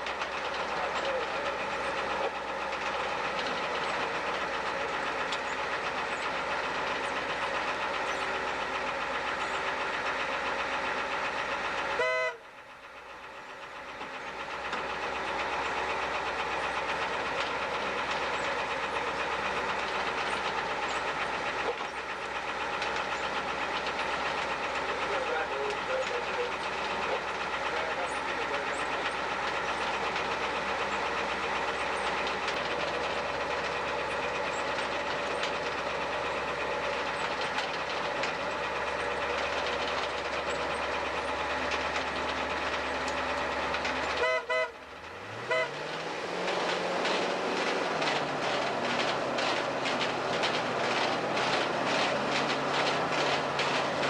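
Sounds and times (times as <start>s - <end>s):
rapid regular clatter: 0.0s - 12.0s, 13.2s - 44.2s, 44.8s - 54.0s
heavy machine engine running: 0.0s - 54.0s.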